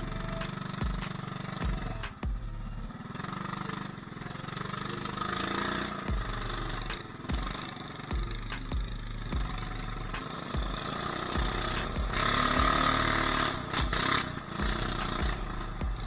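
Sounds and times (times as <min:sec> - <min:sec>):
small motorbike engine: 0:00.0 - 0:16.0.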